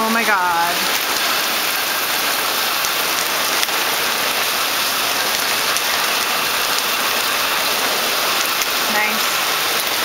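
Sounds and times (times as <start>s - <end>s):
heavy rain pouring: 0.0s - 10.0s
rain drop ticks: 0.0s - 10.0s.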